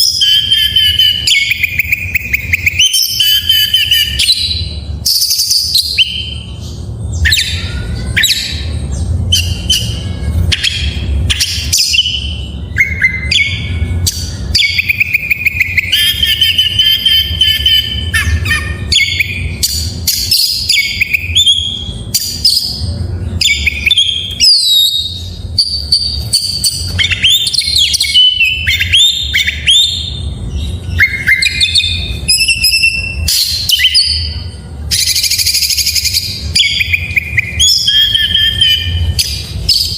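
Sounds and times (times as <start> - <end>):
low steady hum: 0.0 - 39.9
songbird singing: 0.0 - 39.9.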